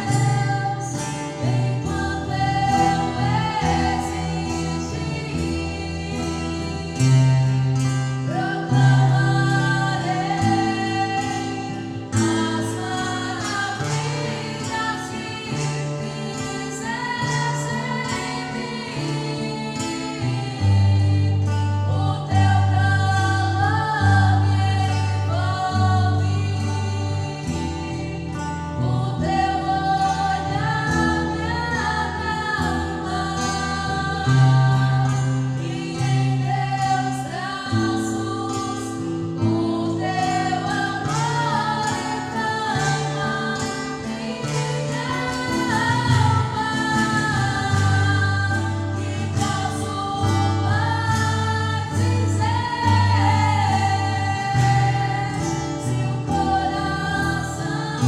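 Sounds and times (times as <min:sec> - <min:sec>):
gospel choir singing: 0:00.0 - 0:58.0.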